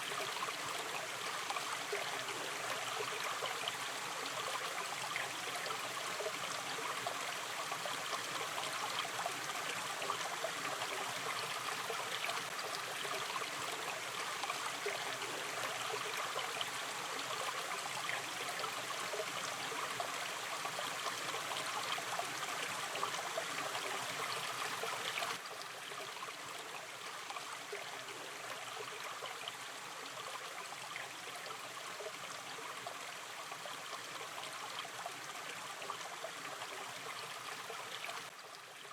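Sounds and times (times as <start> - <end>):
stream water flowing and gurgling: 0.0 - 38.9.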